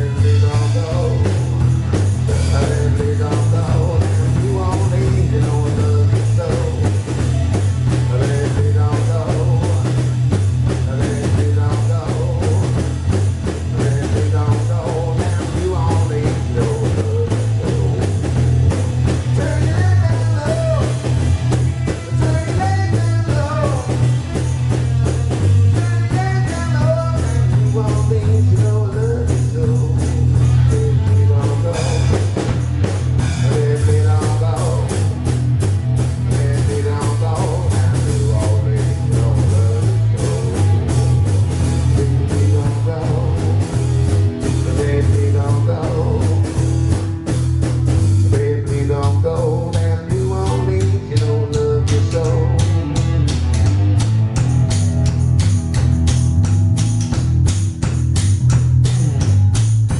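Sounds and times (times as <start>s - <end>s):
blues-rock band playing: 0.0s - 59.9s.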